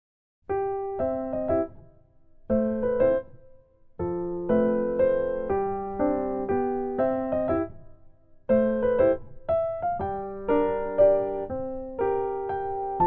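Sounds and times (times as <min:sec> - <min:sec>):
light piano melody: 0:00.5 - 0:13.0.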